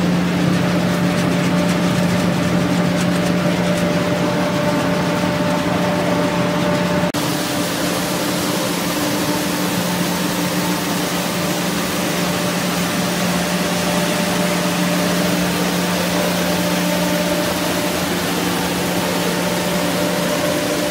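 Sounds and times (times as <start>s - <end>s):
motor hum: 0.0s - 20.9s.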